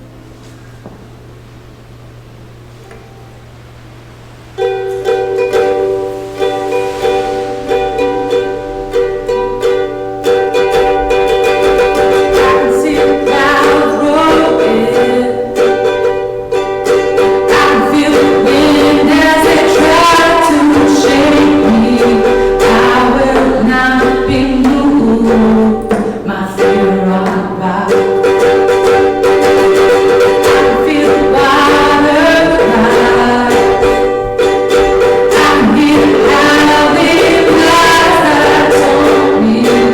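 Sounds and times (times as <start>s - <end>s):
strummed string chords: 2.8s - 39.9s
person singing: 5.0s - 16.2s, 16.9s - 39.9s.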